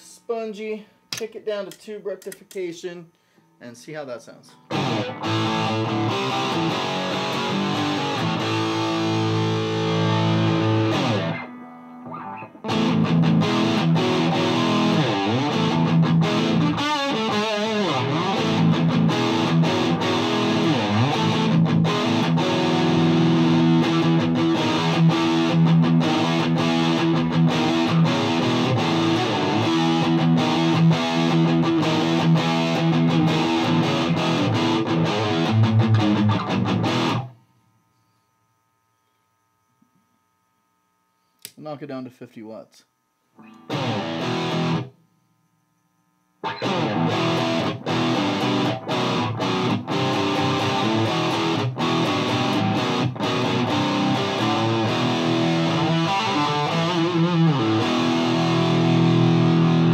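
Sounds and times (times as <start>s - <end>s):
distorted electric guitar: 4.4s - 37.5s, 43.4s - 45.0s, 46.4s - 59.9s.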